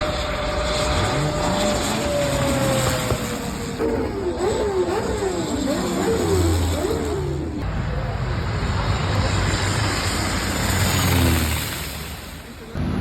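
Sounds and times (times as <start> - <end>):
airplane engine: 0.0 - 13.0.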